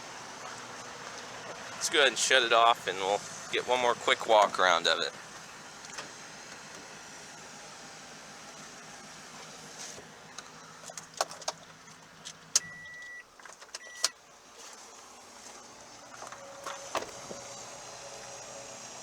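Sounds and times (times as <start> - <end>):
truck engine idling: 0.0 - 13.4, 14.2 - 19.0.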